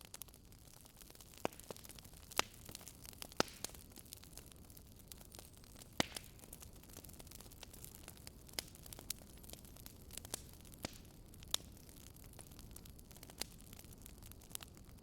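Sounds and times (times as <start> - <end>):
fire crackling in fireplace: 0.0 - 15.0
low steady hiss: 0.0 - 15.0
fire popping sharply: 0.8 - 15.0.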